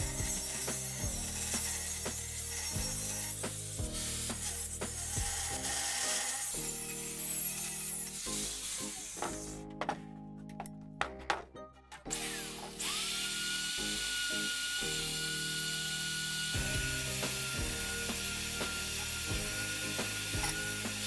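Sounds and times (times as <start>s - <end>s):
electric drill whining: 0.0s - 9.5s, 12.1s - 21.0s
sanding attachment rasping on steel: 0.0s - 9.7s, 12.1s - 21.0s.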